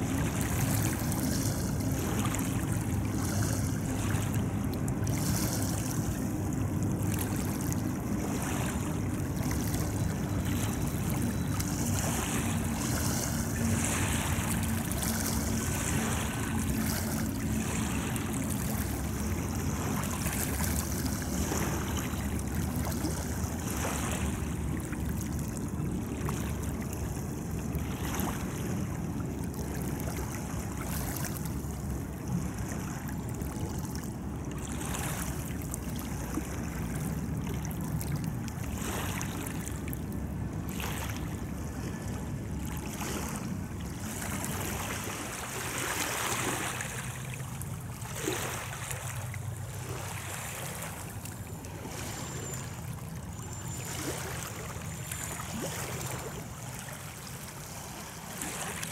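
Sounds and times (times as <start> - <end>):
water lapping at shore: 0.0 - 58.9.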